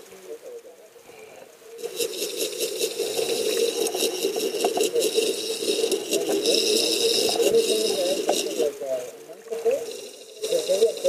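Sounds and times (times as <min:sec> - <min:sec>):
underwater thrusters churning: 0:01.1 - 0:11.0.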